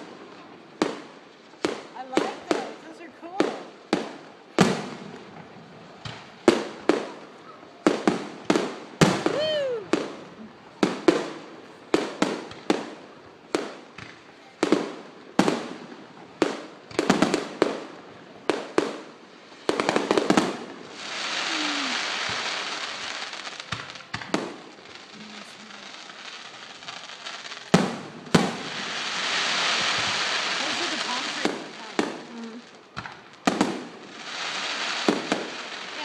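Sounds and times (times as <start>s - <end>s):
fireworks bangs with echo: 0.0s - 36.0s
steady hiss: 0.0s - 36.0s.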